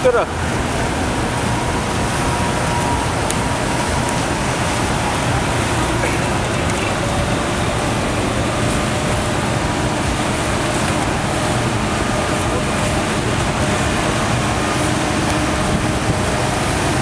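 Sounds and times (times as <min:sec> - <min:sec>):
choppy river water: 0:00.0 - 0:17.0
motorboat engines: 0:00.0 - 0:17.0.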